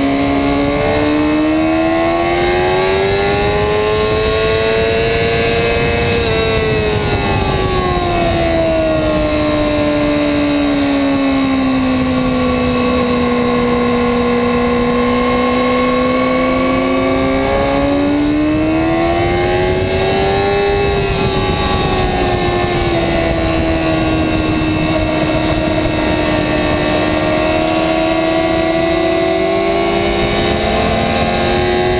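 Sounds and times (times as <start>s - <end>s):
motorcycle engine at high revs: 0.0s - 31.9s
wind rush: 0.0s - 31.9s.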